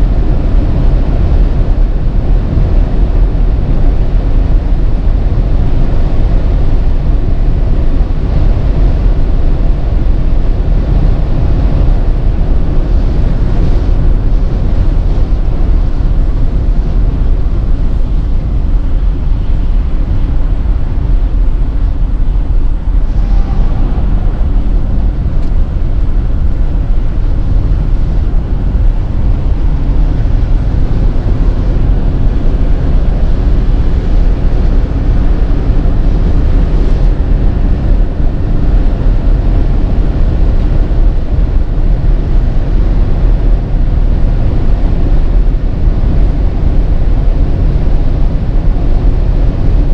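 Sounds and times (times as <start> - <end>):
car driving on road: 0.0 - 49.9.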